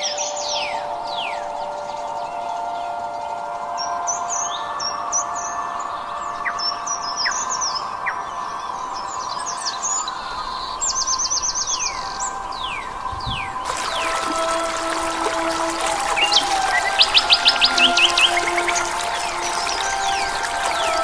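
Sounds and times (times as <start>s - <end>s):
wild birds chirping: 0.0s - 21.0s.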